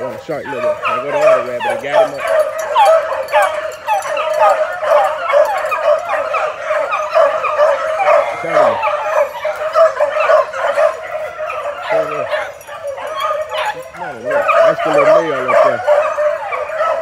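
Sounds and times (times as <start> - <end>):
puppies yipping and baying: 0.0 - 17.0.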